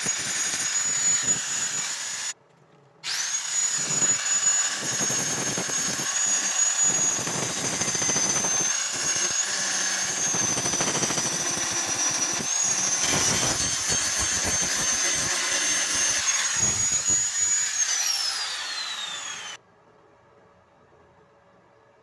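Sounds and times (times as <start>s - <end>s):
angle grinder grinding metal: 0.0s - 2.4s, 3.0s - 19.6s.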